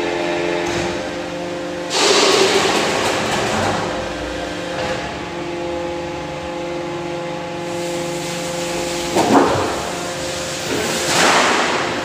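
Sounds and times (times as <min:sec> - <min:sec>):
hydraulic press humming: 0:00.0 - 0:12.0.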